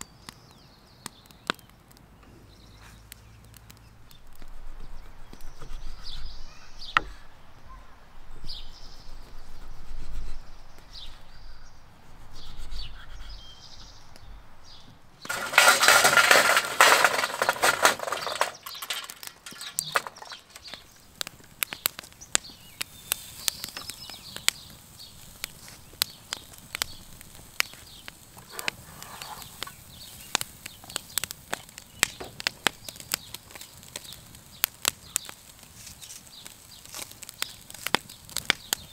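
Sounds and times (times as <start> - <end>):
charcoal crackling and popping: 0.0 - 7.6, 8.2 - 38.9.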